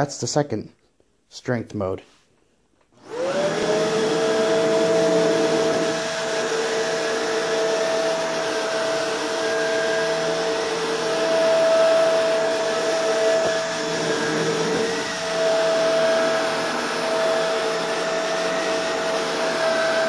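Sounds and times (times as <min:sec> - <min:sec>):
vacuum cleaner motor whine: 0:03.0 - 0:20.0.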